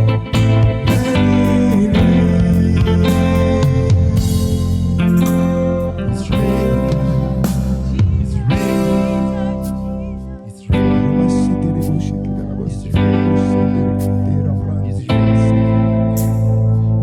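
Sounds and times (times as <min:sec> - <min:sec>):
person singing: 0:00.0 - 0:15.7
guitar: 0:00.0 - 0:17.0
worship band music: 0:00.0 - 0:17.0.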